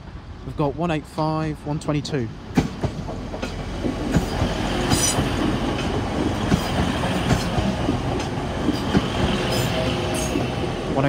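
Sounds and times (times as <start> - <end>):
train passing: 0.0 - 11.0.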